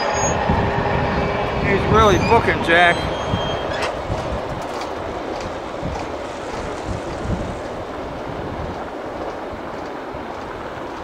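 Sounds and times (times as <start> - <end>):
freight train cars rumbling past: 0.0 - 11.0
wind buffeting microphone: 0.3 - 11.0.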